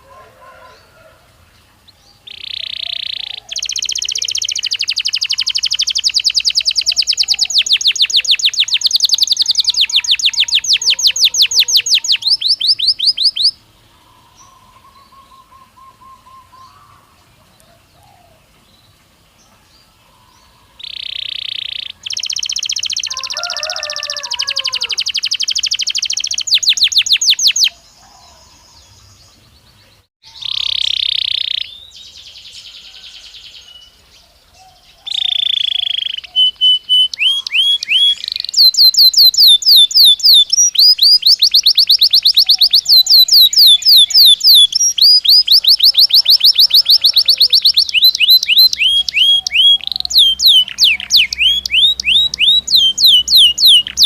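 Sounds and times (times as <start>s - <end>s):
canary singing trills: 0.0s - 54.0s
faint bird calls: 1.8s - 18.6s, 19.4s - 54.0s.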